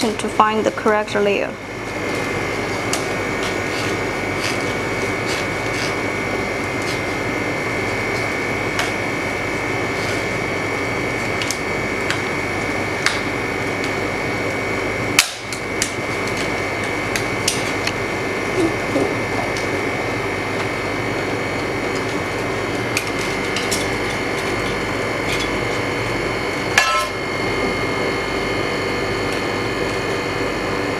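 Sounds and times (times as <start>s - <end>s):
high whine of cooling unit: 0.0s - 30.9s
machine humming: 0.0s - 30.9s.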